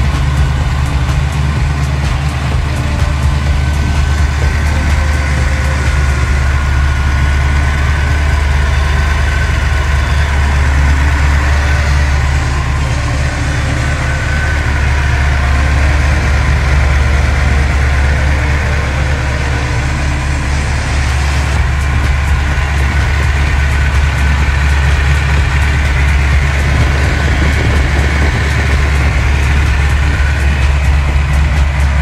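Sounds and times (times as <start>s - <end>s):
v eight engine idling: 0.0s - 32.0s.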